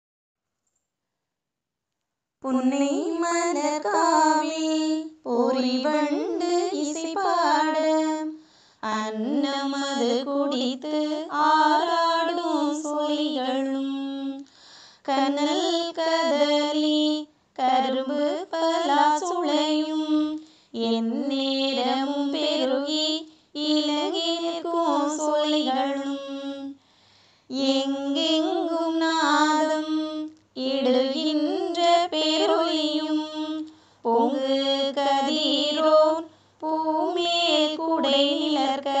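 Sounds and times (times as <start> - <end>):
woman singing unaccompanied: 2.4 - 26.8, 27.5 - 39.0.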